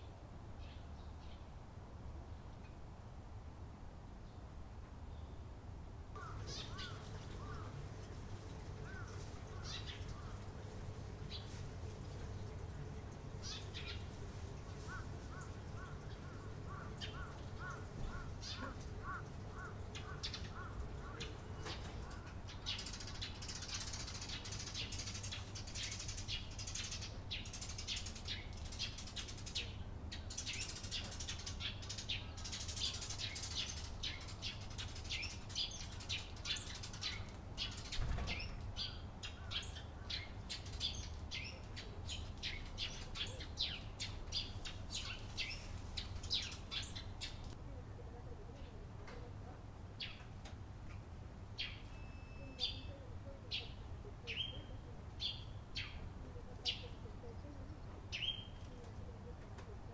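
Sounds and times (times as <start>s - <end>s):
sparrows chirping: 6.2s - 50.4s, 51.5s - 59.5s.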